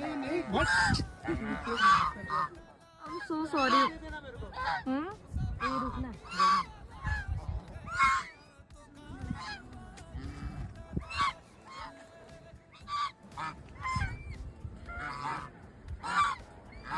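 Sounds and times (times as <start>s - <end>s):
waterfowl calling: 0.0s - 5.0s, 5.6s - 8.4s, 9.2s - 16.9s.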